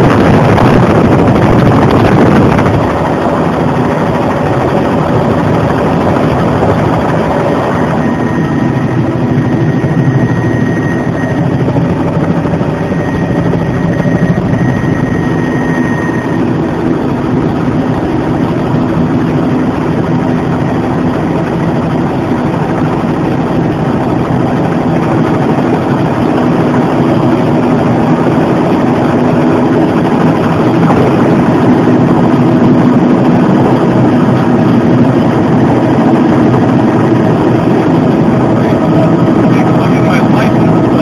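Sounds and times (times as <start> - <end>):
helicopter turbine and rotor: 0.0 - 41.0.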